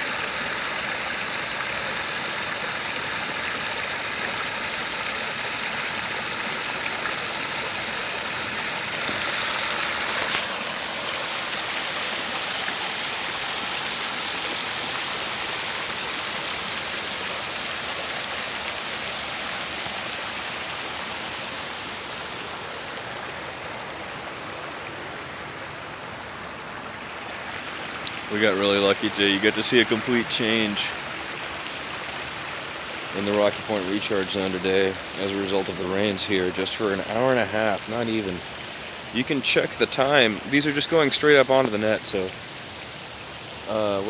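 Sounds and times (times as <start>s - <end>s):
stormwater rushing: 7.2s - 42.9s.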